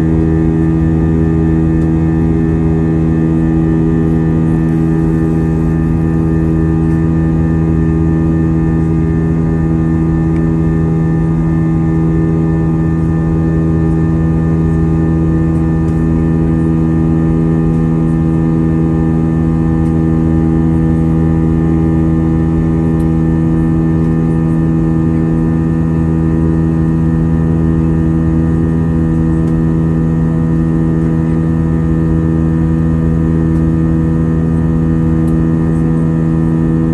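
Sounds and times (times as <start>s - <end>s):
jet engines droning in cabin: 0.0s - 36.9s.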